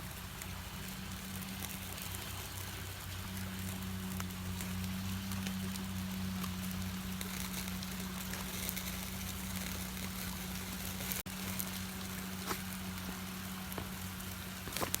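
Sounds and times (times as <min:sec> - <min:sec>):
constant low hum: 0:00.0 - 0:15.0
mountain stream rushing: 0:00.0 - 0:15.0.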